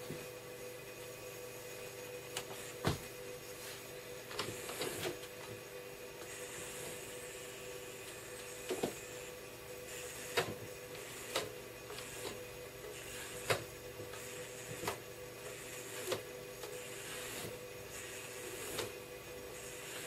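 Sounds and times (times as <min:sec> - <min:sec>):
small electric motors whining: 0:01.7 - 0:20.0.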